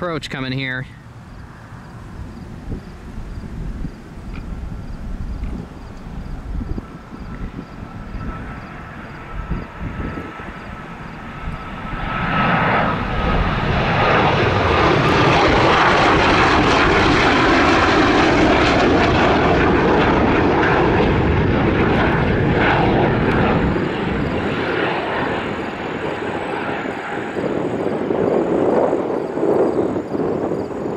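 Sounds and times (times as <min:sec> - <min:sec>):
jet engine roar: 0:00.0 - 0:30.9.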